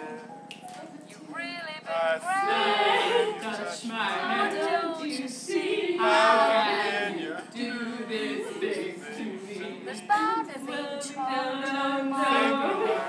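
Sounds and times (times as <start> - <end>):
women singing together: 1.0 - 13.0.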